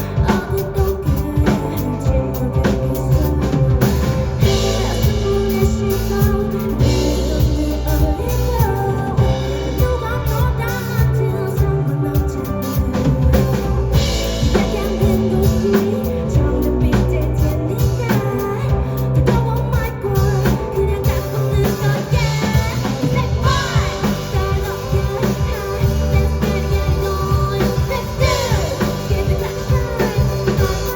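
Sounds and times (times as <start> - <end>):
drum kit beat: 0.0 - 30.9
live band playing: 0.0 - 30.9
person singing: 0.0 - 30.9.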